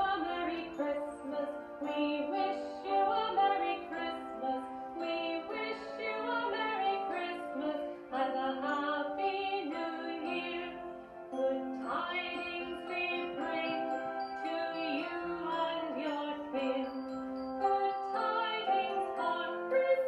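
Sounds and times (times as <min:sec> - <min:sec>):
christmas song with singing: 0:00.0 - 0:20.0.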